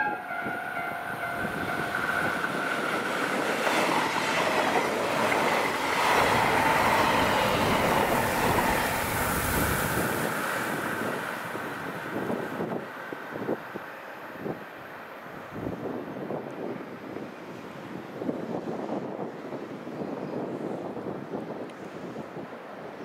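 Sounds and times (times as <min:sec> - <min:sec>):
train passing at speed: 0:00.0 - 0:20.1.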